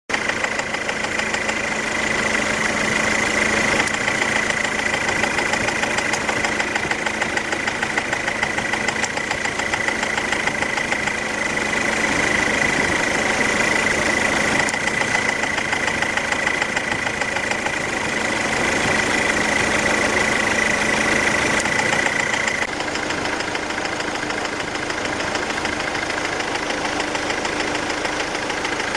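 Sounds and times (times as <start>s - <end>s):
diesel engine idling with knock: 0.1s - 28.9s.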